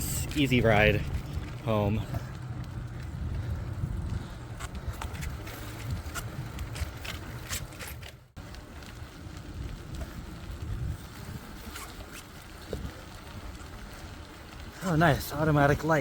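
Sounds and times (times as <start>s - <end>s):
wind buffeting microphone: 0.0s - 15.8s
bicycle tyre rumble: 0.0s - 16.0s.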